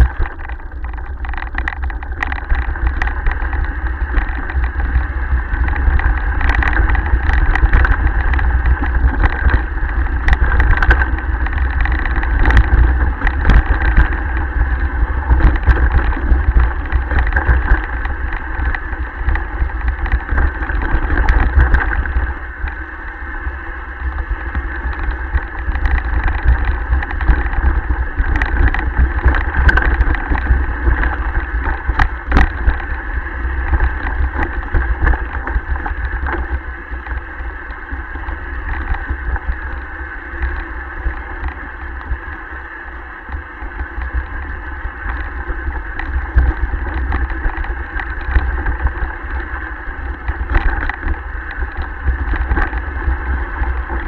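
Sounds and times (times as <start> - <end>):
mountain bike rumbling and rattling: 0.0 - 54.0
wind buffeting microphone: 0.0 - 54.0.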